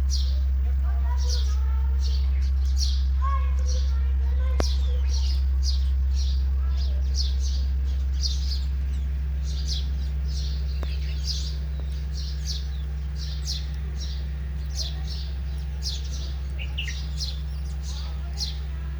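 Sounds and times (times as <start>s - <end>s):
sparrows chirping: 0.0s - 18.9s
steady low hum: 0.0s - 18.9s.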